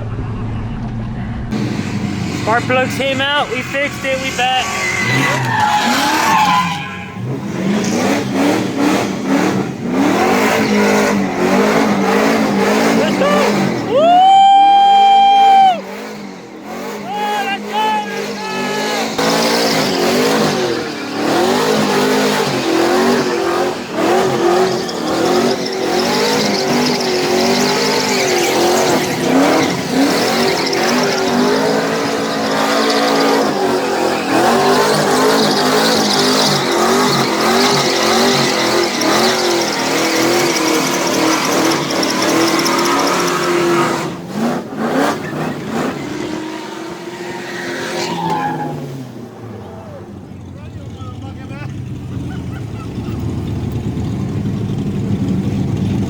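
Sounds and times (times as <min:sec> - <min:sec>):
tires squealing: 0:00.0 - 0:56.0
truck engine revving: 0:00.0 - 0:56.0.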